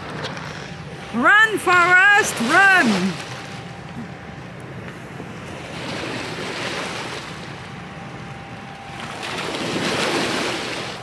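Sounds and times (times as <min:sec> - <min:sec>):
ship engine drone: 0:00.0 - 0:11.0.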